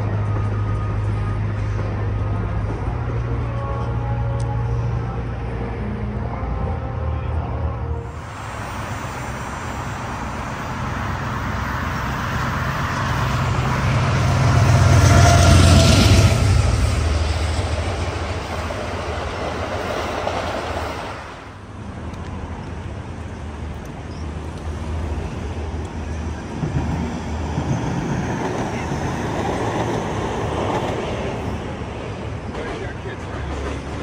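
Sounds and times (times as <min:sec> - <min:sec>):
train passing rumble: 0:00.0 - 0:34.0.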